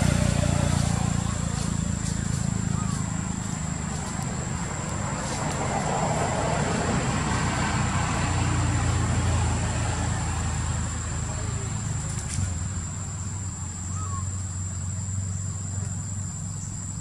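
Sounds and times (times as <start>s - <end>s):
motor vehicle engine rumble: 0.0s - 17.0s.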